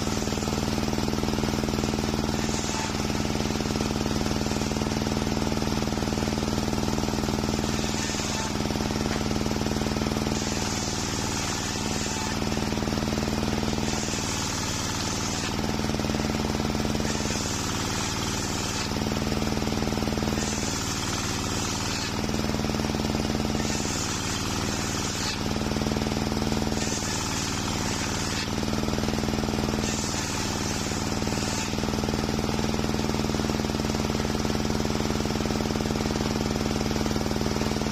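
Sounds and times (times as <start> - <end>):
saw blade cutting wood: 0.0 - 34.8
table saw motor hum: 0.0 - 37.9.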